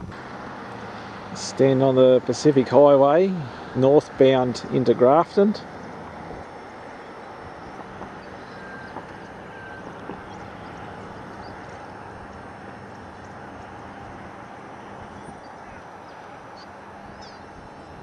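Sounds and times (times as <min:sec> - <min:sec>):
car road noise: 0:00.0 - 0:18.0
low engine hum: 0:00.0 - 0:18.0.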